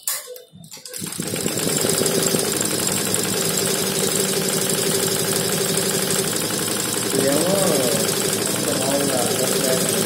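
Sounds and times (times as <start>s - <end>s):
embroidery machine knocking: 1.0s - 10.0s
steady machine hum: 1.0s - 10.0s.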